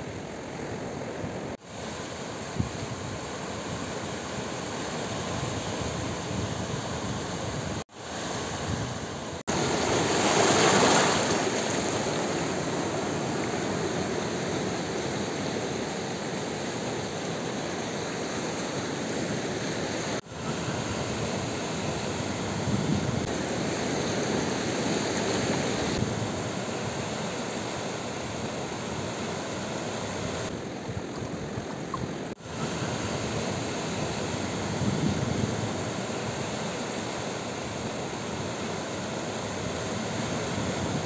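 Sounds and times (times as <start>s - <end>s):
sea surf washing on shore: 0.0s - 41.0s.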